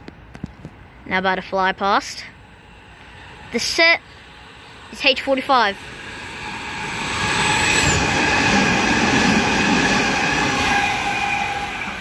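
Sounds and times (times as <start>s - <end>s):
train passing at speed: 1.8s - 12.0s.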